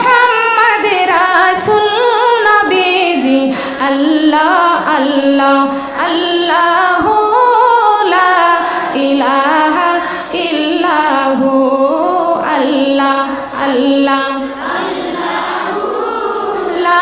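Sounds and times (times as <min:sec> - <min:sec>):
woman singing unaccompanied chant: 0:00.0 - 0:17.0.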